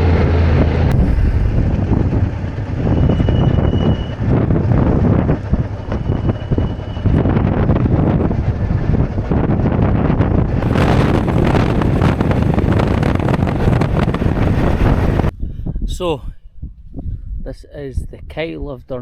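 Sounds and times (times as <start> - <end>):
motorcycle engine running: 0.0 - 15.3
wind buffeting microphone: 0.0 - 18.8.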